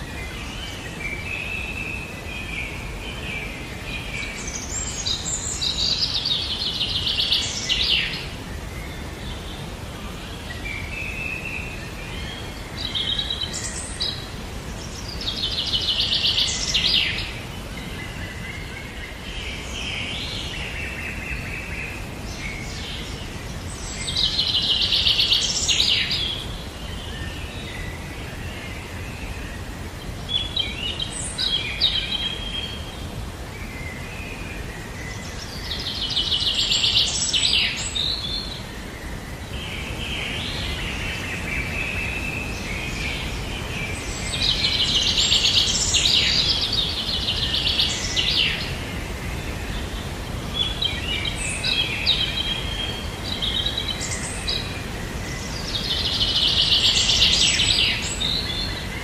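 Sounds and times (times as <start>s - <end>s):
birds chirping: 0.0s - 59.0s
low background hiss: 0.0s - 59.0s.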